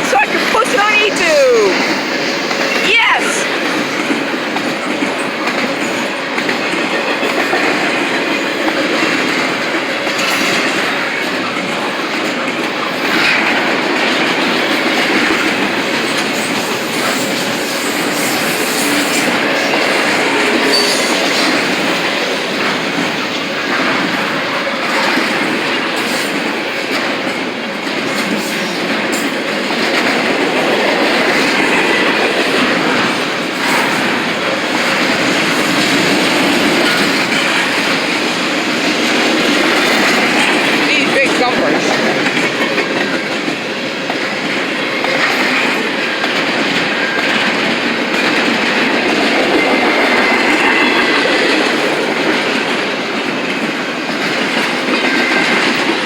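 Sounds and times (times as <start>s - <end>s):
train cars rumbling and rattling: 0.0s - 56.0s.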